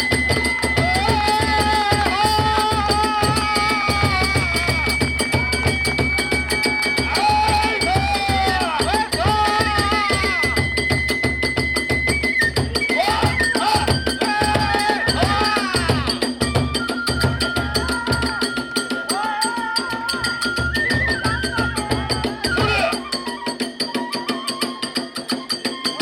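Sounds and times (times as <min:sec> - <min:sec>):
bamboo flute melody: 0:00.0 - 0:26.0
hand cymbals clashing: 0:00.0 - 0:26.0.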